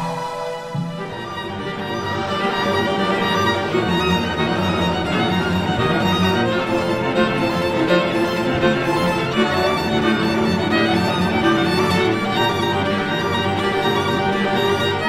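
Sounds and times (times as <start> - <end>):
violin and strings music: 0.0 - 15.0.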